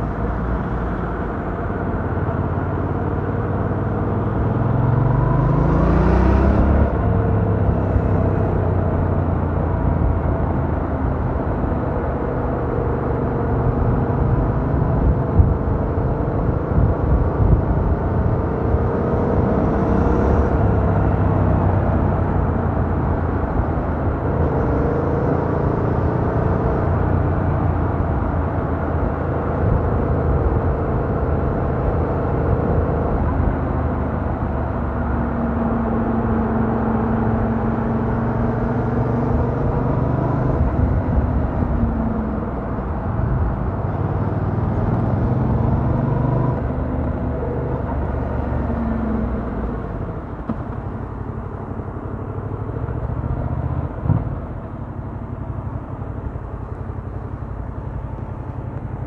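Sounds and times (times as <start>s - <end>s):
road rumble: 0.0s - 59.0s
wind: 0.0s - 59.0s.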